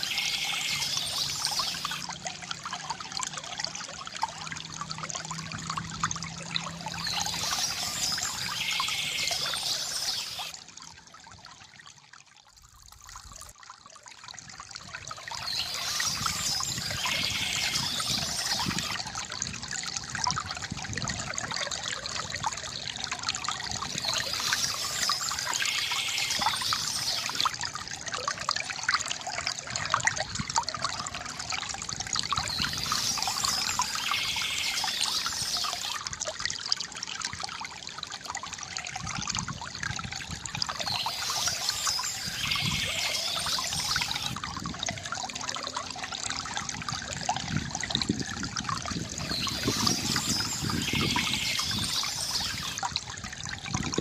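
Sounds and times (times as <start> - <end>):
fountain water trickling and gurgling: 0.0 - 54.0.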